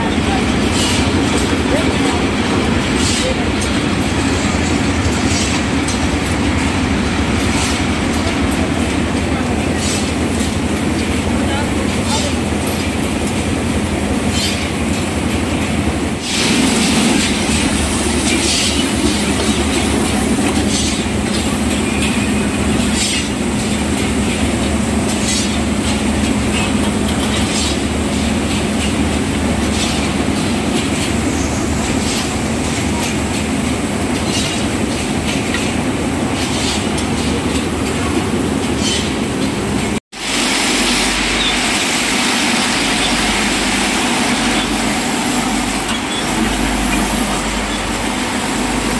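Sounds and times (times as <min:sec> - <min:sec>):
machinery clattering: 0:00.0 - 0:40.0, 0:40.8 - 0:48.9.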